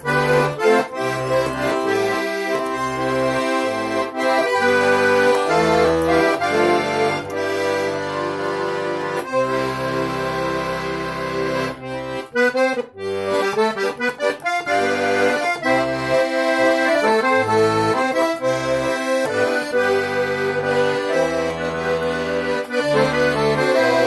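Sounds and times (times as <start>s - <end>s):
accordion playing chords: 0.0s - 24.0s.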